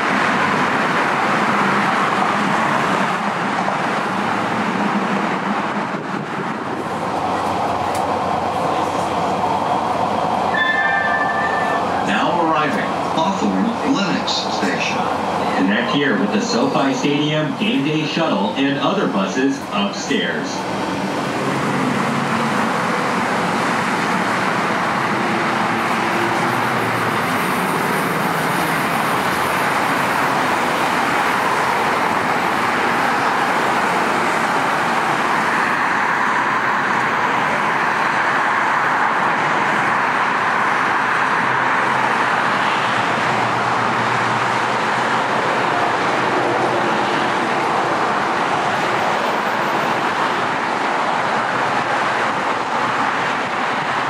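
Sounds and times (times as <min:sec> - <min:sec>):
moving vehicles rushing: 0:00.0 - 0:54.0.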